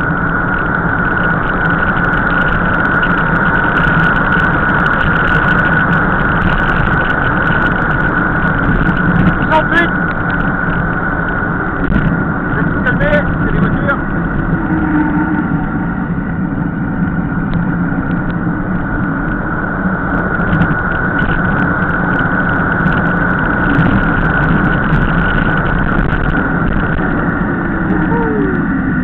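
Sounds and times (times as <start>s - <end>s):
bike tyres on wet asphalt: 0.0s - 29.0s
wind rushing over microphone: 0.0s - 29.0s.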